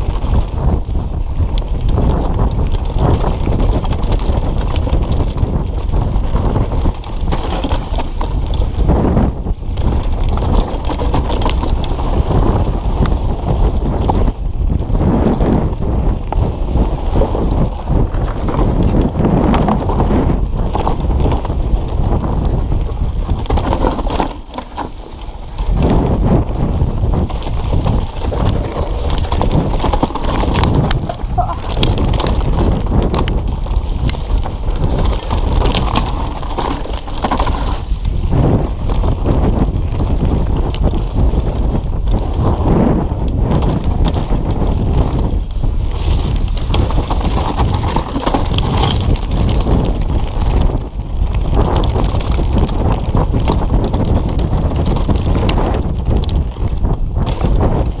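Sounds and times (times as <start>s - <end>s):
bike rattling and knocking: 0.0s - 58.0s
tyres rumbling over dirt: 0.0s - 58.0s
wind buffeting microphone: 0.0s - 58.0s.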